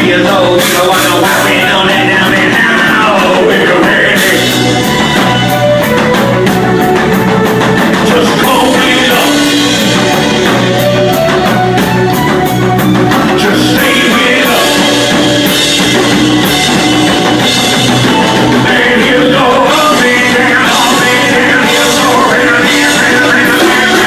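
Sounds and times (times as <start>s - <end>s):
person singing: 0.0s - 6.3s, 7.9s - 10.9s, 13.1s - 24.0s
live rock band playing: 0.0s - 24.0s.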